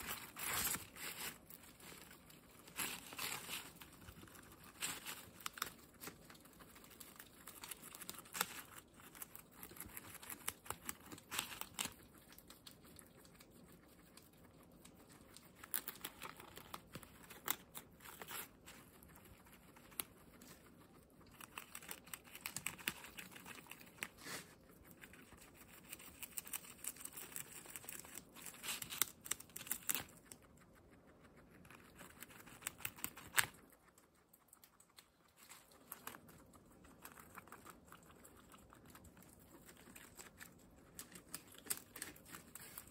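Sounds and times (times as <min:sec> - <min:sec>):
guinea pig chewing leaves: 0:00.0 - 0:42.9.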